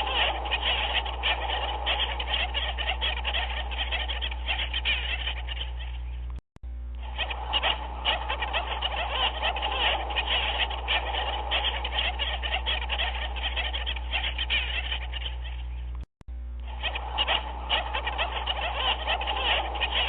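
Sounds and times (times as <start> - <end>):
animal calls chattering: 0.0 - 6.3, 7.0 - 16.0, 16.6 - 20.0
steady low hum: 0.0 - 20.0.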